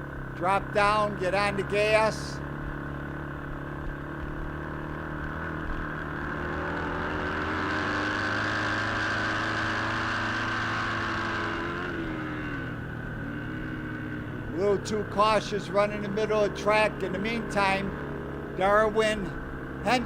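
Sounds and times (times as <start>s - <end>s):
racing motorcycle engine revving: 0.0s - 20.0s.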